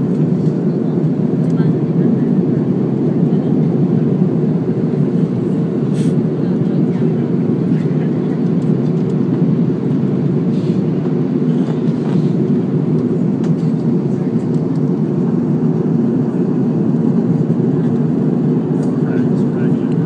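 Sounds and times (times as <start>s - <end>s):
airliner cabin engine noise: 0.0s - 20.0s.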